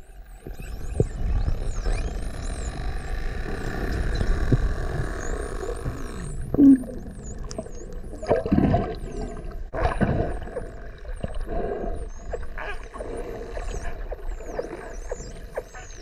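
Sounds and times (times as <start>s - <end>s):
dolphins whistling underwater: 0.2s - 16.0s.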